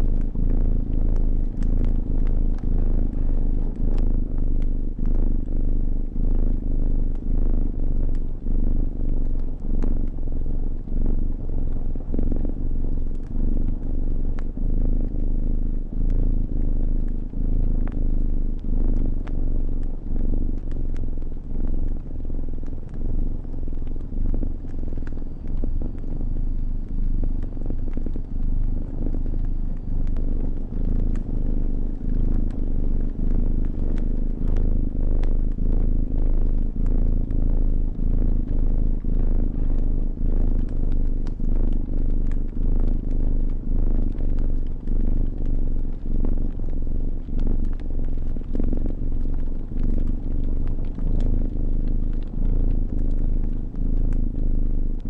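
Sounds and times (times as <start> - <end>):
cat purring: 0.0 - 55.0
fire crackling: 0.2 - 55.0.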